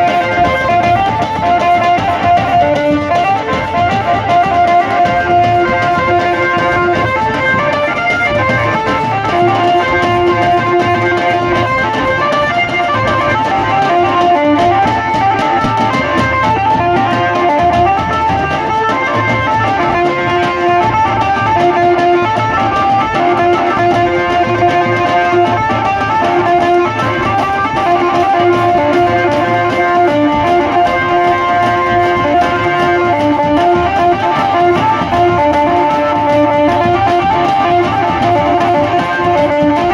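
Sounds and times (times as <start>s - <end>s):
plucked lead melody: 0.0s - 39.9s
steady low drum beat: 0.0s - 39.9s
wedding band playing: 0.0s - 39.9s.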